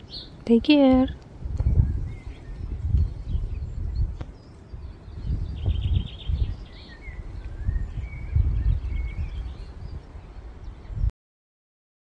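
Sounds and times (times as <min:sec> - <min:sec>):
small birds singing: 0:00.0 - 0:11.1
wind buffeting microphone: 0:00.0 - 0:11.1.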